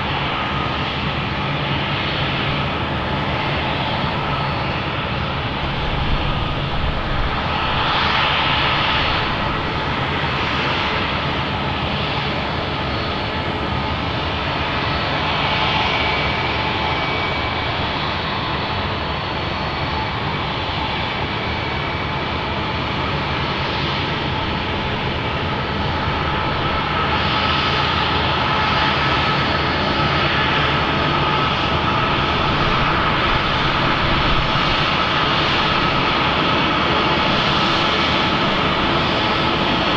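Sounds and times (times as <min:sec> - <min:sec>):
jet engines rumbling with whine: 0:00.0 - 0:39.9.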